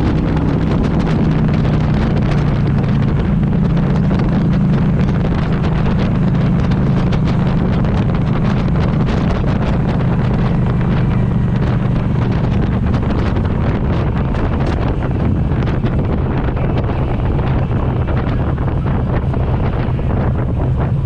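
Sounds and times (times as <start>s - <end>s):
microphone crackle: 0.0s - 21.0s
vehicle engine drone: 0.0s - 21.0s
wind noise on microphone: 0.0s - 21.0s.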